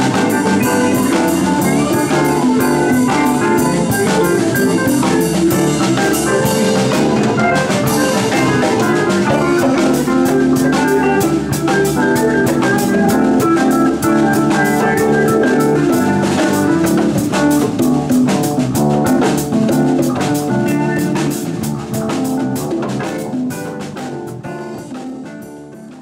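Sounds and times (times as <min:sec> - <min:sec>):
drum and cymbal hits: 0:00.0 - 0:26.0
electric guitar: 0:00.0 - 0:26.0
live band instrumental jam: 0:00.0 - 0:26.0.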